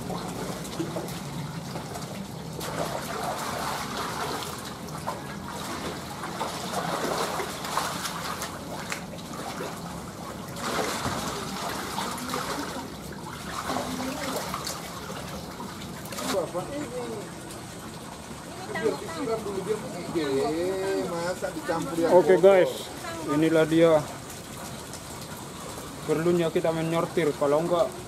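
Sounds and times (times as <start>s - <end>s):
muddy water splashing and sloshing: 0.0s - 28.0s
water trickling: 0.0s - 28.0s.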